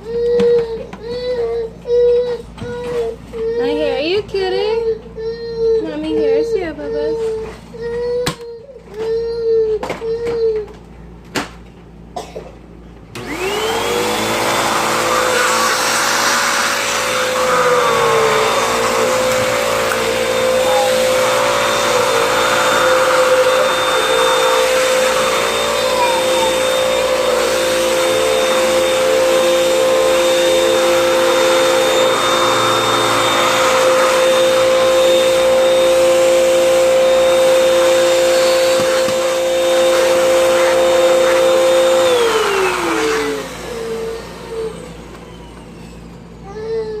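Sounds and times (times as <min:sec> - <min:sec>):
vacuum cleaner motor whining: 0:00.0 - 0:09.1, 0:13.1 - 0:47.0.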